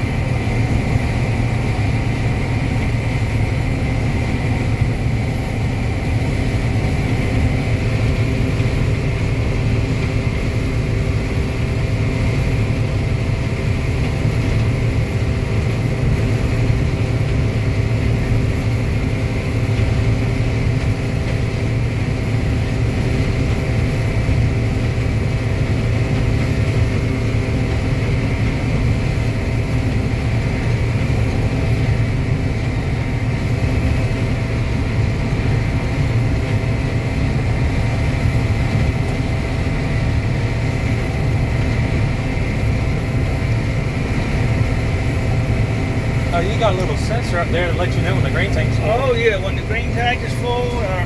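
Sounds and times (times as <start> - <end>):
low engine drone: 0.0 - 51.0.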